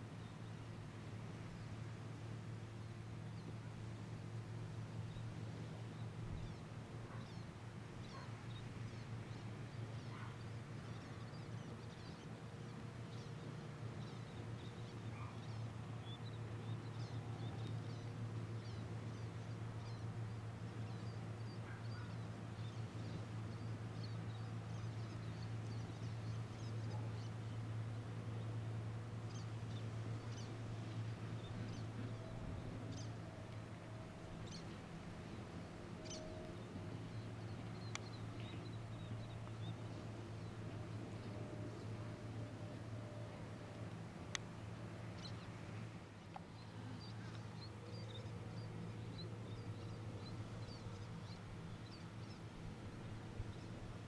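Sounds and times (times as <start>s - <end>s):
steady low hum: 0.0s - 54.0s
small birds chirping: 5.0s - 33.6s, 34.3s - 42.1s, 43.9s - 53.8s.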